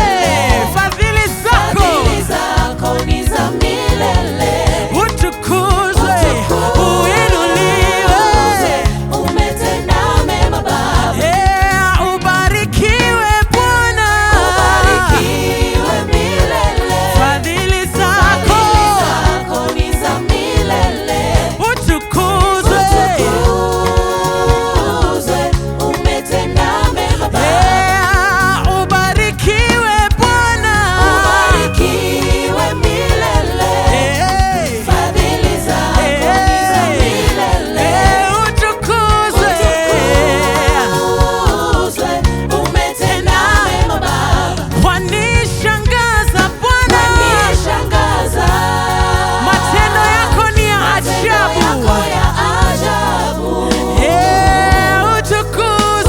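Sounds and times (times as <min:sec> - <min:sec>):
gospel singing with band: 0:00.0 - 0:56.0.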